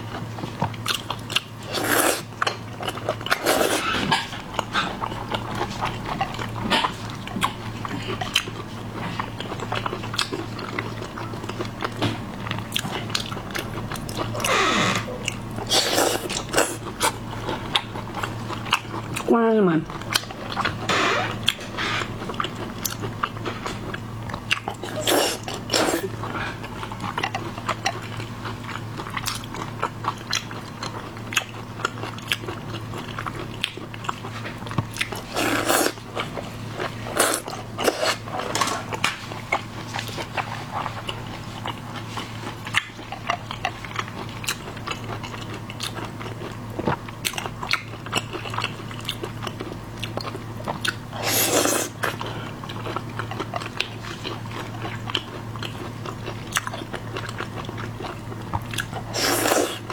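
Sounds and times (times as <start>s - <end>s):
crunching and wet chewing: 0.0s - 59.9s
steady low hum: 0.0s - 59.9s.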